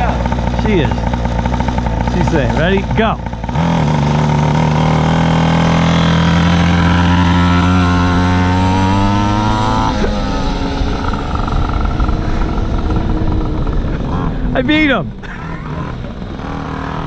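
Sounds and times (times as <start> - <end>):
small engine at full throttle: 0.0 - 17.0.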